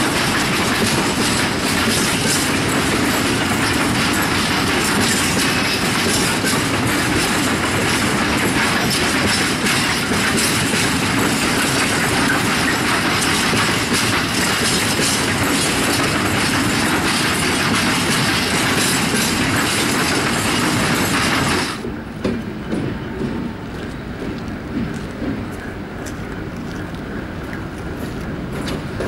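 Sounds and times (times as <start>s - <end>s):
train wheels clattering over joints: 0.0s - 29.0s.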